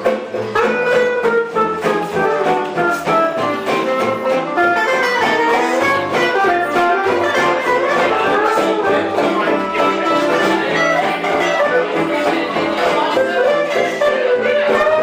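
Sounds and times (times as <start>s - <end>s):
guitar quick rhythm: 0.0s - 15.0s
violin melody: 0.0s - 15.0s.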